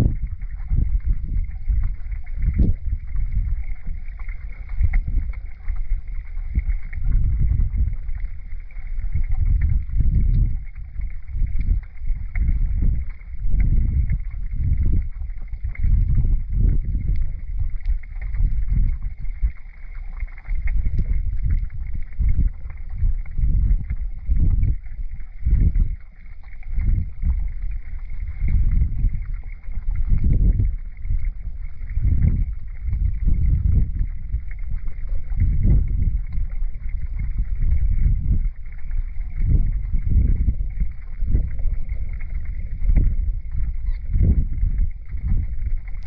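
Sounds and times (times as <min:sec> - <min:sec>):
muffled underwater river current: 0:00.0 - 0:46.0.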